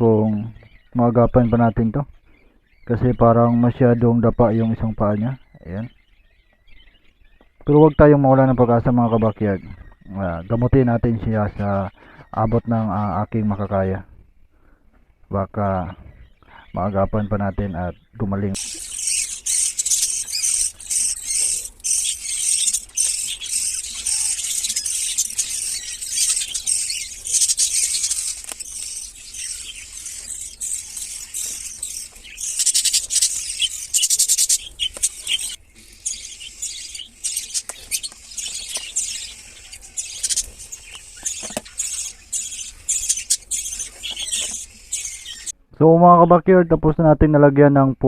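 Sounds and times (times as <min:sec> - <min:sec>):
lovebirds squealing and chirping: 0:00.0 - 0:13.9, 0:15.4 - 0:45.6.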